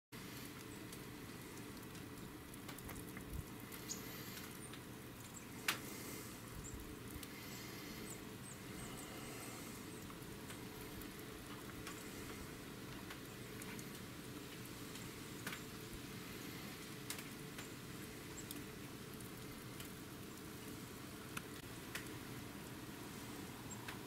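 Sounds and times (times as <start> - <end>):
low rumble and hiss: 0.2 - 24.0.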